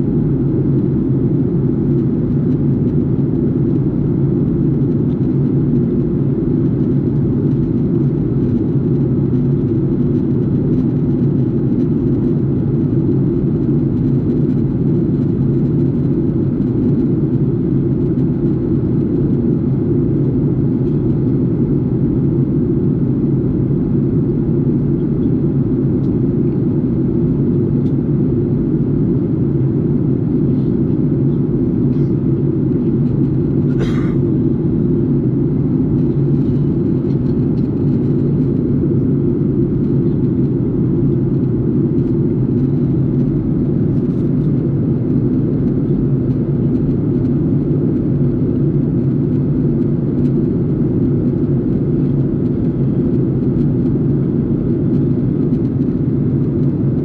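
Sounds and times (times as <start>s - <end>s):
jet airliner cabin drone: 0.0s - 57.0s.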